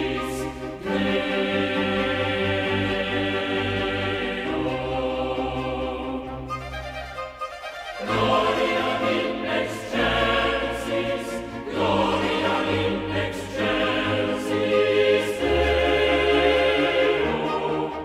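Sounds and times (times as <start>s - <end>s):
choir singing sustained chords: 0.0s - 18.0s.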